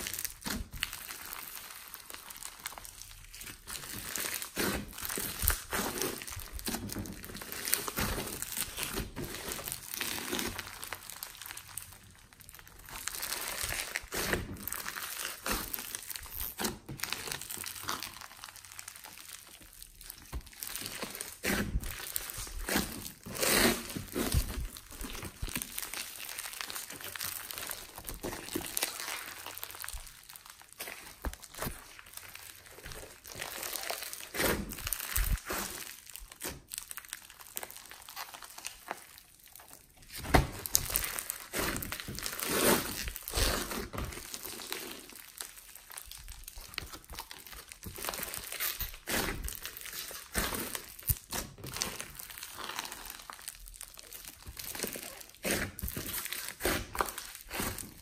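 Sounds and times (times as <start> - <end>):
slime crackling and popping: 0.0 - 58.0.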